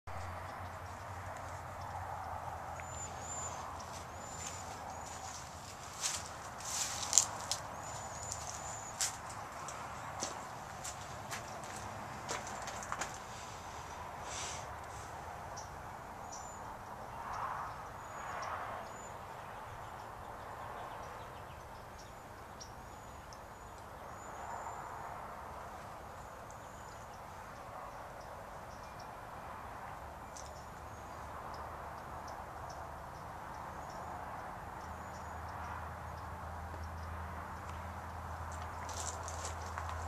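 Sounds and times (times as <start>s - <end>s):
soft outdoor background: 0.1s - 40.0s
small birds chirping: 0.2s - 24.8s, 25.8s - 40.0s.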